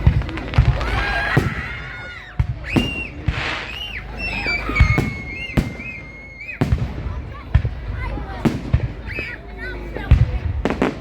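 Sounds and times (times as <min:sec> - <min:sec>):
firework bangs: 0:00.0 - 0:11.0
whistling fireworks shrieking: 0:00.0 - 0:11.0.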